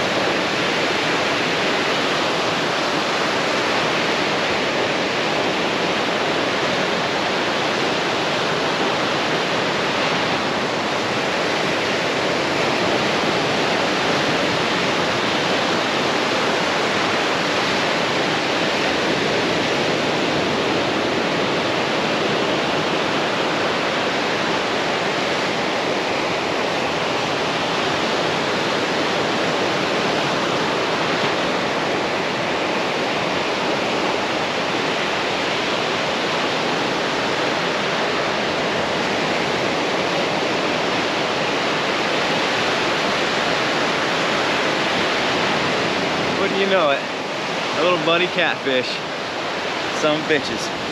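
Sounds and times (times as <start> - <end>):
waves washing on shore: 0.0 - 50.9.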